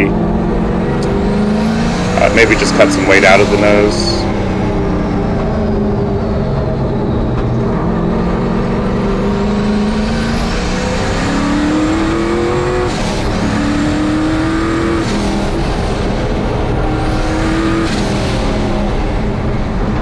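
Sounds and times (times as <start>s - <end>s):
turbocharged engine running hard: 0.0s - 20.0s.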